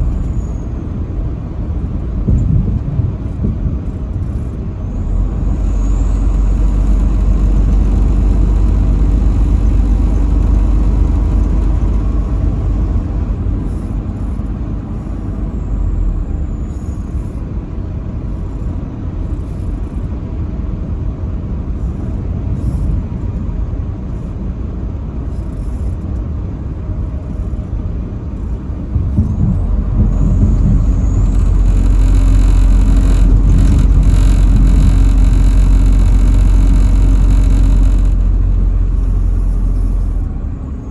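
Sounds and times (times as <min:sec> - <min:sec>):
truck engine rumbling: 0:00.0 - 0:18.2, 0:26.0 - 0:40.9
road noise: 0:00.0 - 0:19.3, 0:20.2 - 0:40.9.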